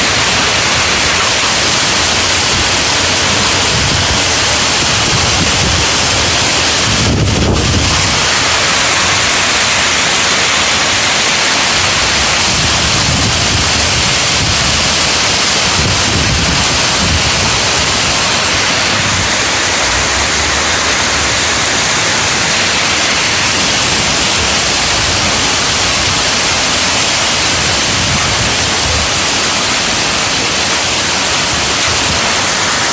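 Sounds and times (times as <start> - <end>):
hailstones hissing: 0.0 - 32.9
wind buffeting microphone: 0.0 - 32.9.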